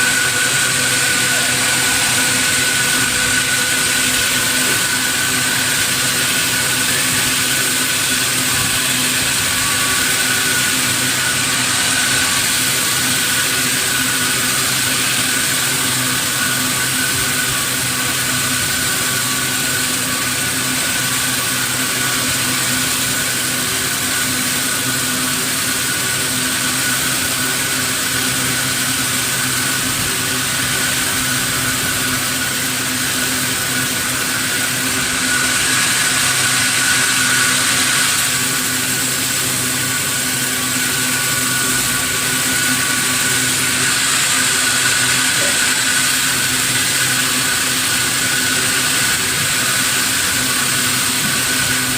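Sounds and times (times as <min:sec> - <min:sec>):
constant high whine: 0:00.0 - 0:51.9
hiss: 0:00.0 - 0:51.9
sawmill machinery running: 0:00.0 - 0:51.9.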